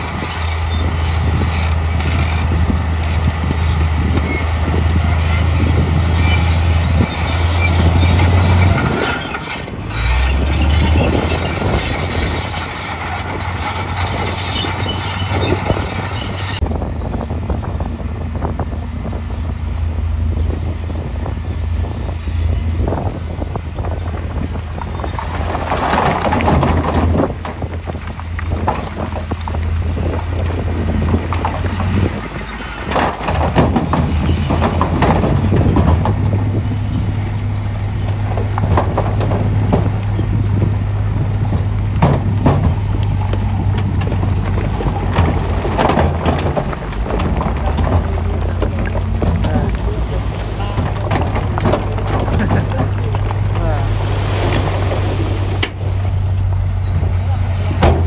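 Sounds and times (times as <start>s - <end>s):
dirt and rocks sliding out: 0.0s - 16.6s, 20.9s - 58.0s
heavy diesel machinery droning: 0.0s - 58.0s.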